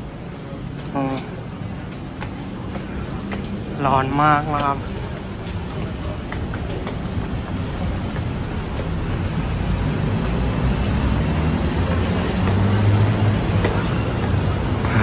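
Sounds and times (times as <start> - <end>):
city road traffic rumble: 0.0 - 15.0.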